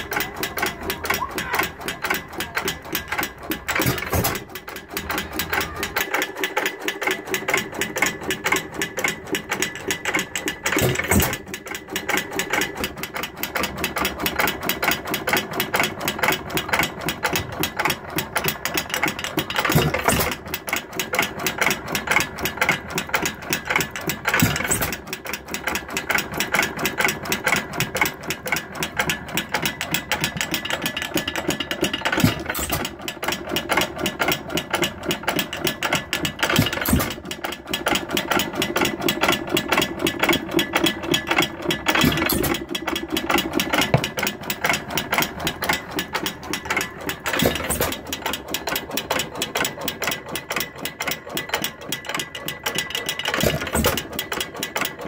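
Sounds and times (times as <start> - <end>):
engine firing stroke: 0.0 - 52.2, 52.8 - 55.0
engine valve gear clatter: 0.0 - 55.0.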